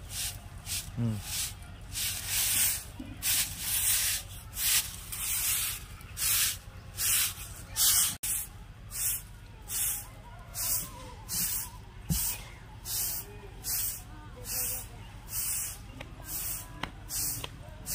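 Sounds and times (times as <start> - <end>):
brooms sweeping grit on concrete: 0.0 - 17.9.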